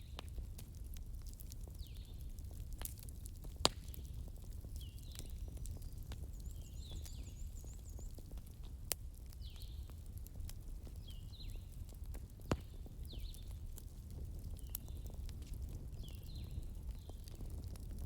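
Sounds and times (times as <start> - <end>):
fire popping: 0.0 - 18.0
wood fire crackling: 0.0 - 18.0.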